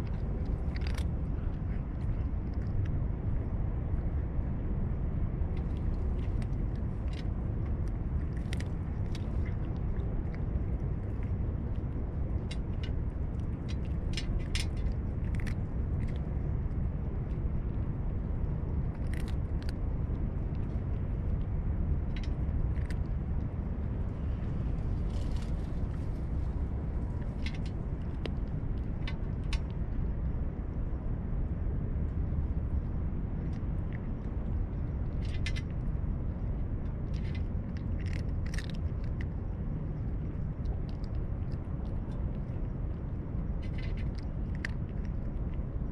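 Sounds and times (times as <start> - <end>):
cat chewing and crunching food: 0.0 - 45.9
low background rumble: 0.0 - 45.9.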